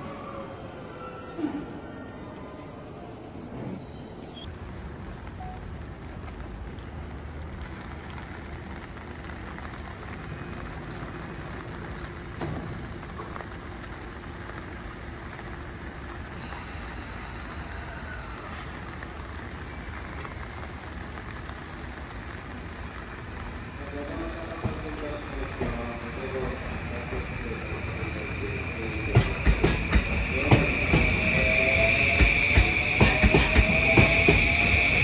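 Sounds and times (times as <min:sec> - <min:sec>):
electric train rolling slowly: 0:00.0 - 0:35.0.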